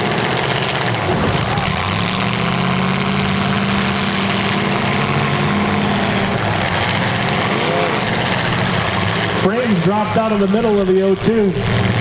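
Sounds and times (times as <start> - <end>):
car engines running loudly: 0.0 - 12.0
engine revving: 0.0 - 12.0.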